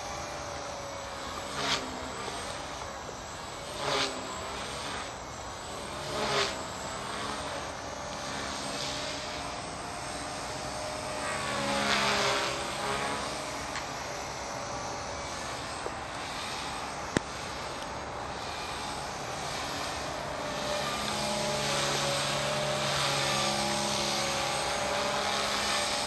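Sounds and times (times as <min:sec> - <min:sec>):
model aircraft motor whine: 0:00.0 - 0:26.0.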